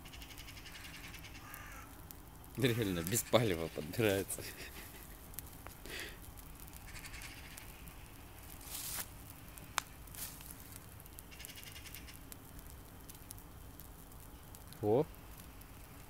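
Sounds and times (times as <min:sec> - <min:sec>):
fire hiss: 0:00.0 - 0:16.0
small fire crackling: 0:00.0 - 0:16.0.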